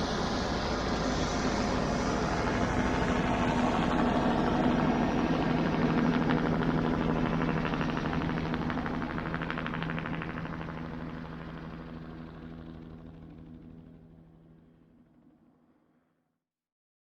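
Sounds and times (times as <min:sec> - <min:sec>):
helicopter rotor chop: 0:00.0 - 0:14.1
helicopter engine hum: 0:00.0 - 0:14.5.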